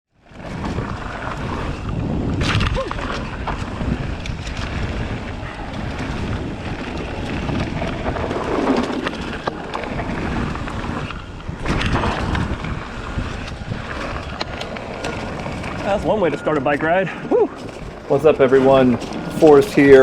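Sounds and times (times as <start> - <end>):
bike rolling on dirt: 0.1 - 20.0
wind buffeting microphone: 0.2 - 20.0
bike clicks and knocks: 0.4 - 15.9, 17.6 - 20.0.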